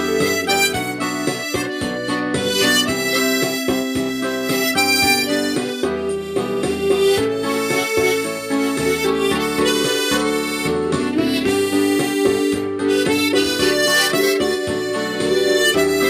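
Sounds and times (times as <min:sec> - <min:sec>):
harmonica melody: 0:00.0 - 0:16.0.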